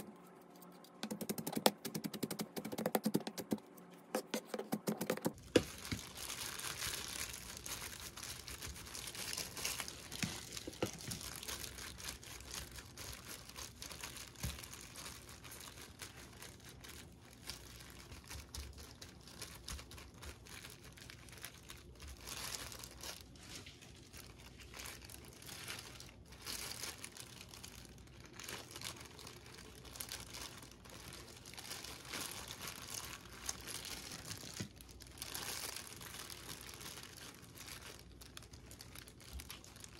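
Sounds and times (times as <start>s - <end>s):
plastic gloves crinkling: 0.0s - 39.9s.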